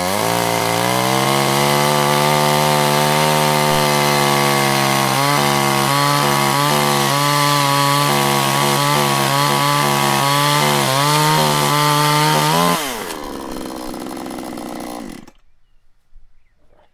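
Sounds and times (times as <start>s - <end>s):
chainsaw engine running: 0.0s - 15.5s.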